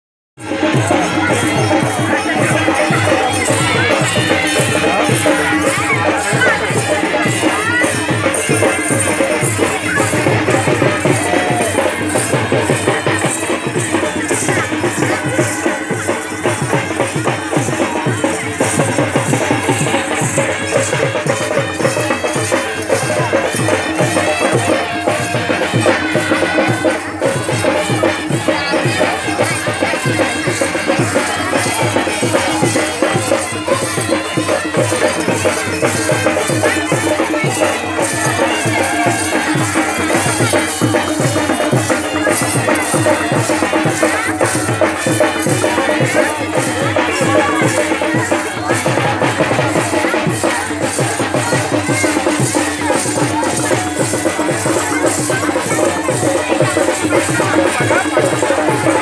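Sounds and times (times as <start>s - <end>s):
fast drum beats: 0.4s - 59.0s
shaken rattle percussion: 0.4s - 59.0s.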